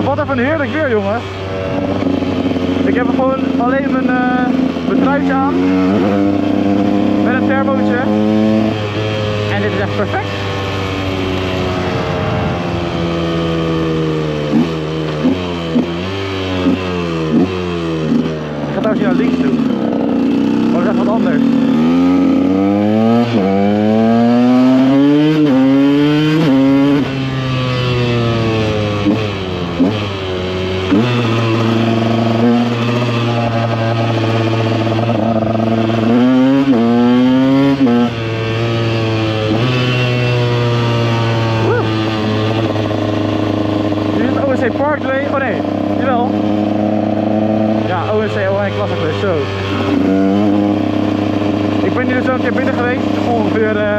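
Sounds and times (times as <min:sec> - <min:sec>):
two-stroke motorcycle engine: 0:00.0 - 0:53.9.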